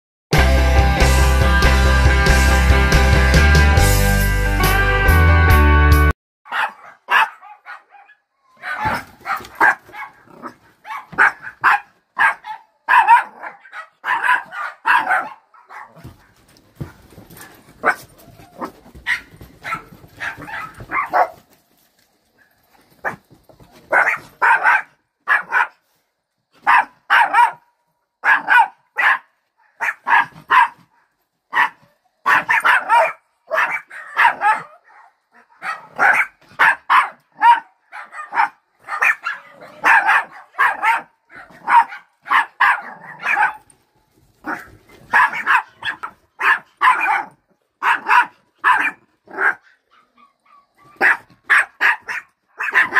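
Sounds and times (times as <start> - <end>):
small dogs barking: 6.5 - 21.5, 22.4 - 25.8, 26.6 - 43.7, 44.4 - 52.9.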